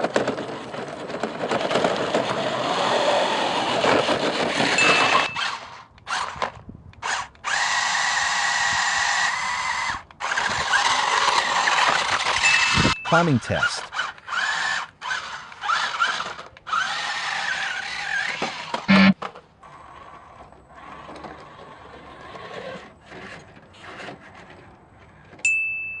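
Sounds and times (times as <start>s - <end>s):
toy car electric motors whining: 0.0s - 13.0s, 13.6s - 25.4s.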